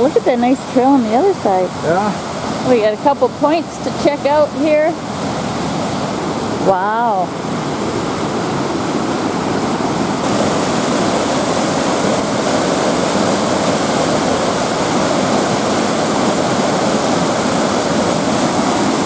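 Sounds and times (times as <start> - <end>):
waterfall and rapids roaring: 0.0 - 19.0.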